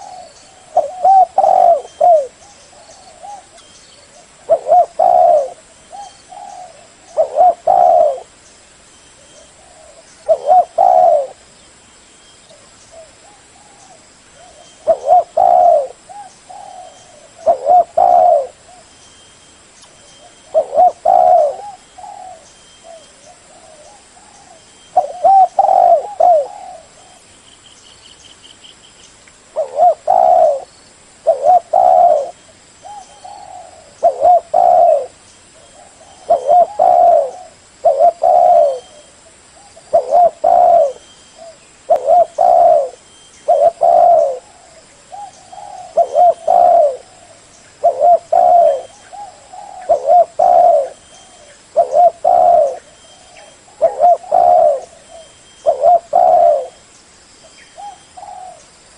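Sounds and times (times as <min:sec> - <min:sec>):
dove cooing: 0:00.0 - 0:08.4, 0:09.2 - 0:11.5, 0:12.5 - 0:18.9, 0:20.2 - 0:27.3, 0:29.6 - 0:56.8, 0:57.7 - 0:58.7.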